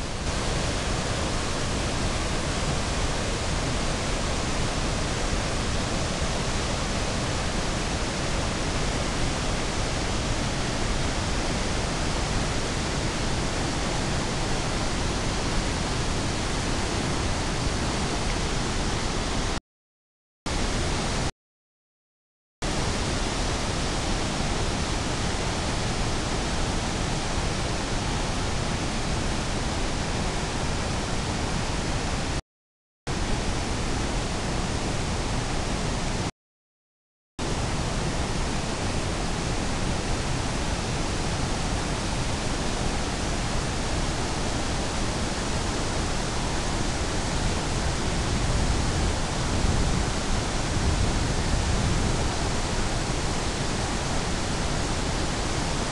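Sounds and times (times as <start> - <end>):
river rapids and waterfall rushing: 0.0 - 19.5, 20.5 - 21.2, 22.7 - 32.4, 33.1 - 36.2, 37.4 - 55.9.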